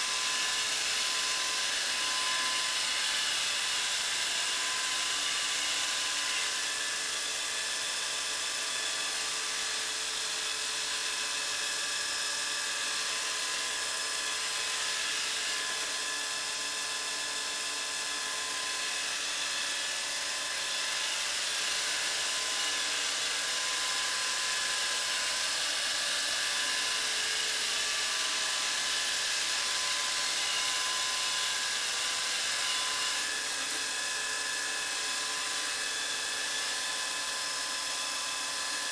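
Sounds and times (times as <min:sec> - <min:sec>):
robot vacuum cleaner running: 0:00.0 - 0:38.9.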